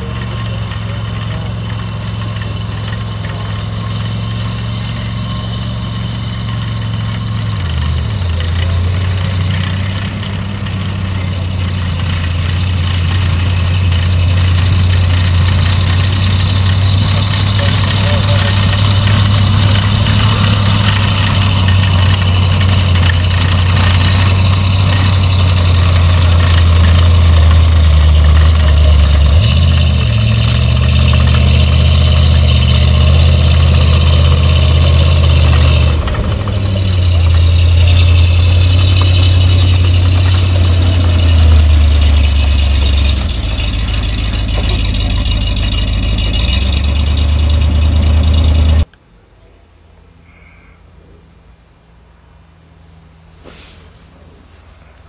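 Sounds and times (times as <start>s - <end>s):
engine running loud and steady: 0.0s - 48.9s.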